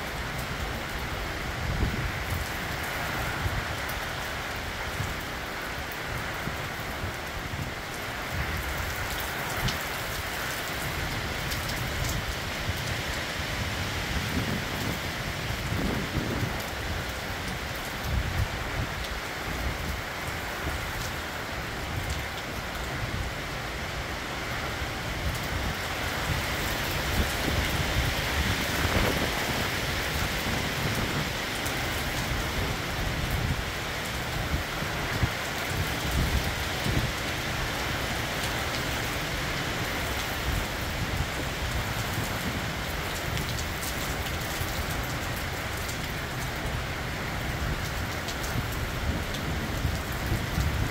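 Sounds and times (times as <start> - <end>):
rain falling steadily: 0.0 - 50.9.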